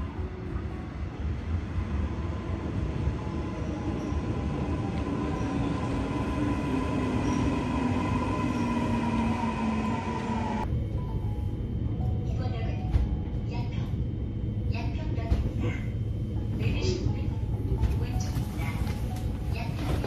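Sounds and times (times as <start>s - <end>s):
passenger train rumbling: 0.0s - 20.0s.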